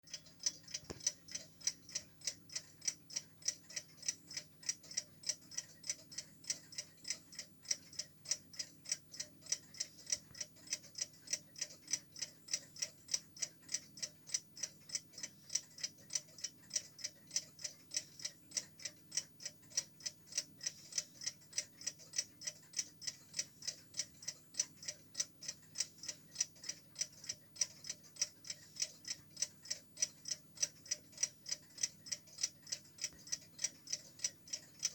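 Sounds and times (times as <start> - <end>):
alarm clock ticking: 0.1 - 34.9.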